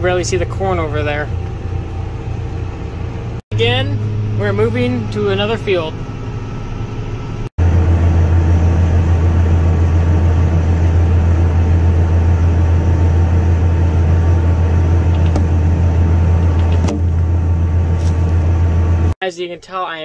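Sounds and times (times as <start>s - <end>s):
tractor engine drone: 0.0s - 19.2s.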